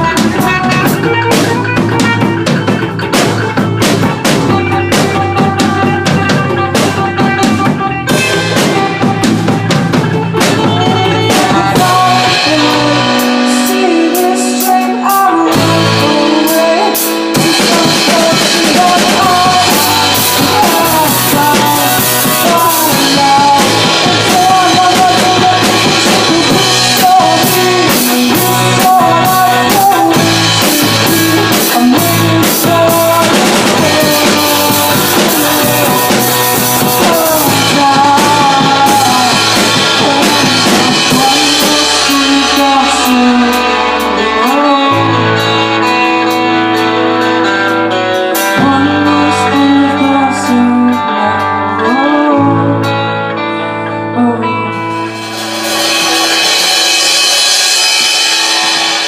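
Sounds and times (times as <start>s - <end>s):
rock music with singing: 0.0s - 59.0s.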